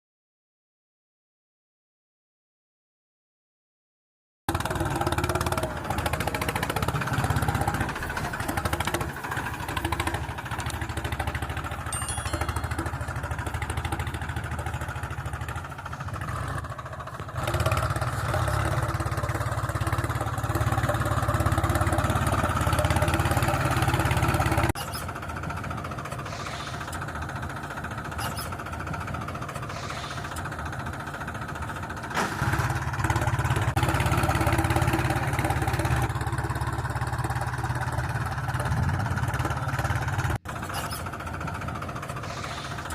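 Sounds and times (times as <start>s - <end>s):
toy tractor motor droning: 4.5s - 42.9s.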